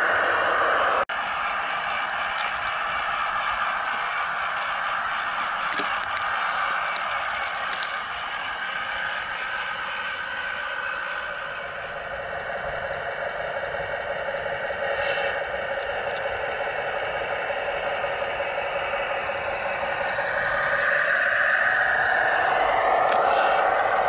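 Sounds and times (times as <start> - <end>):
electric motor and gearbox whine: 0.0 - 12.1, 14.7 - 24.0.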